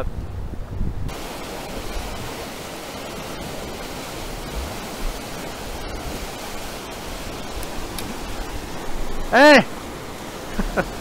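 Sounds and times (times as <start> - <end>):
whitewater rushing: 1.1 - 11.0.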